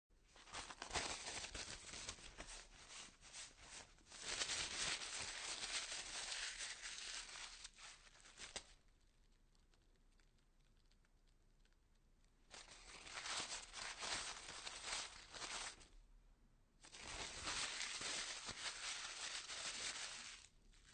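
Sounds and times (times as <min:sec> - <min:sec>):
paper crumpling: 0:00.4 - 0:11.0, 0:12.5 - 0:15.9, 0:16.8 - 0:20.9.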